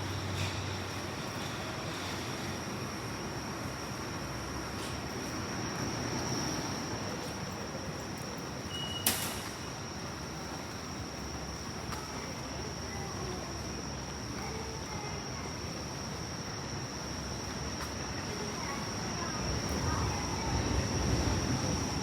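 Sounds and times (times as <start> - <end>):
continuous high-pitched tone: 0.0 - 22.0
steady background hum: 0.0 - 22.0.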